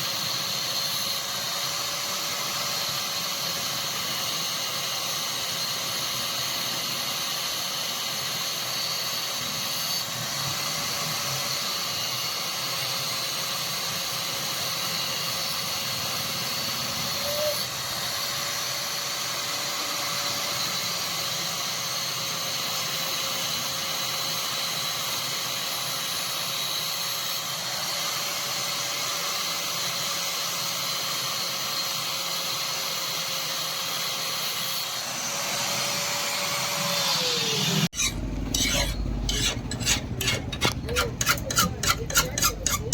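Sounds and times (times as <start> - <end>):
workshop machine running: 0.0 - 42.9.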